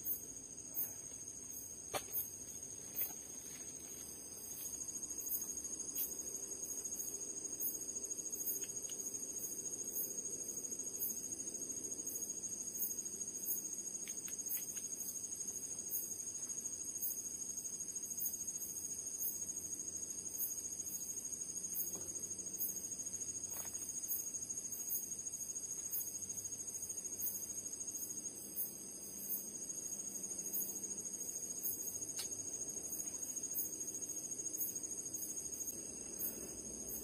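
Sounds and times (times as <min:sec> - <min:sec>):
crickets chirping: 0:00.0 - 0:37.0
higher pulsing insect call: 0:00.0 - 0:37.0.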